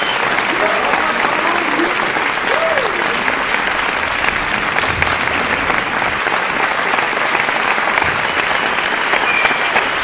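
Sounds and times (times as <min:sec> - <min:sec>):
crowd applause: 0:00.0 - 0:10.0.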